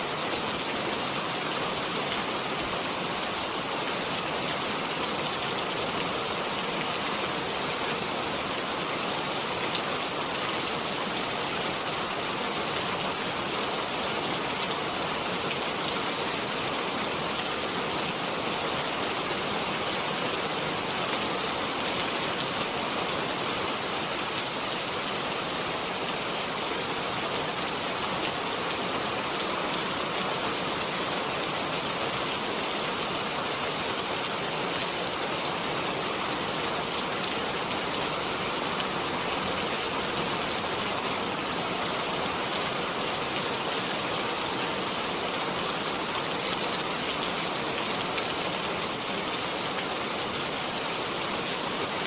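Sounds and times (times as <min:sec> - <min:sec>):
rain on a hard surface: 0:00.0 - 0:52.0.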